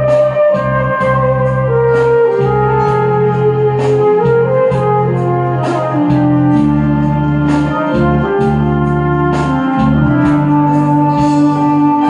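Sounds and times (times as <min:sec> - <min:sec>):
bass: 0:00.0 - 0:12.0
brass horn sustained notes: 0:00.0 - 0:12.0
drums: 0:00.0 - 0:12.0
organ or keyboard: 0:00.0 - 0:12.0.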